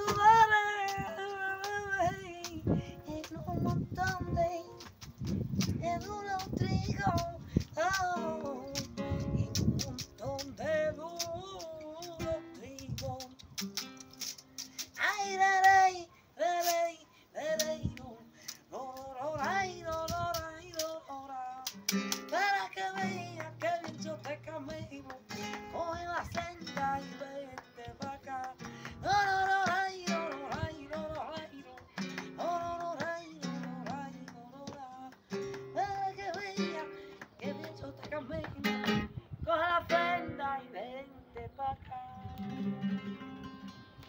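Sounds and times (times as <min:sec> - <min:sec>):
woman singing: 0:00.0 - 0:04.9, 0:05.8 - 0:13.3, 0:15.0 - 0:42.8
acoustic guitar: 0:00.0 - 0:44.0.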